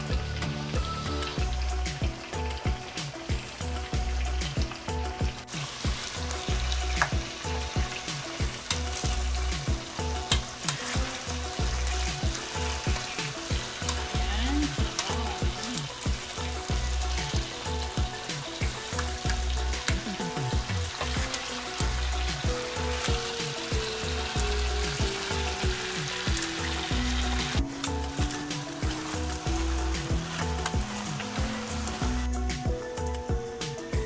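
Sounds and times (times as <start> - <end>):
background music with beat: 0.0 - 34.0
meat sizzling in a pan: 0.0 - 34.0.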